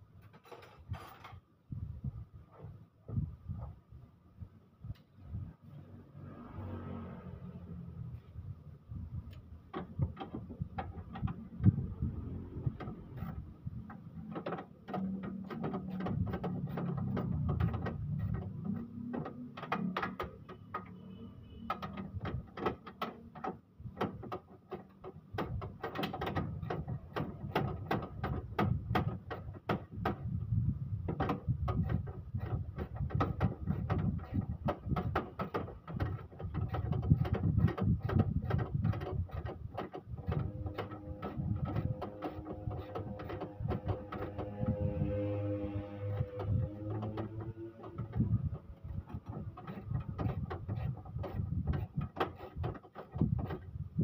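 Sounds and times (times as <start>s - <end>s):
low background rumble: 1.6s - 19.6s, 25.0s - 54.0s.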